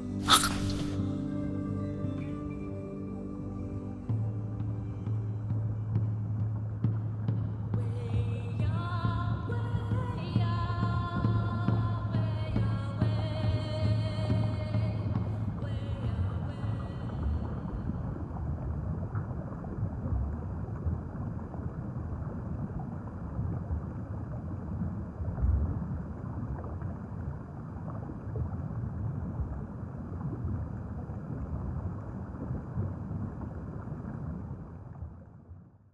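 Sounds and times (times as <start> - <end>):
water noise from boat: 5.5 - 35.9.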